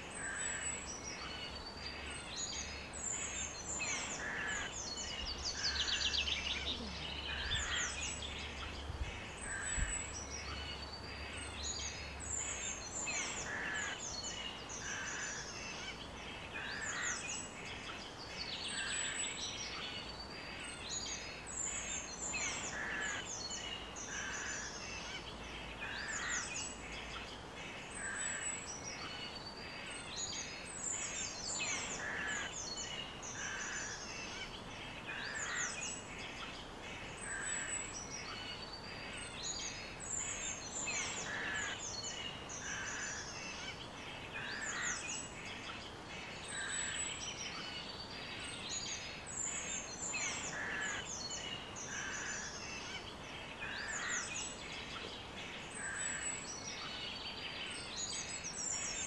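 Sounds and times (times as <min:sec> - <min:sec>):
songbirds chirping and singing: 0:00.0 - 0:59.0
steady background hiss: 0:00.0 - 0:59.0.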